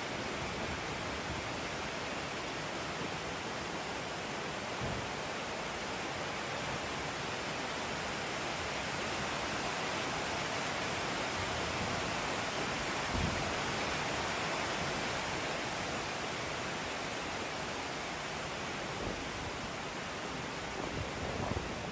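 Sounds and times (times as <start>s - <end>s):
heavy rain pouring: 0.0s - 21.9s
rushing floodwater: 0.0s - 21.9s.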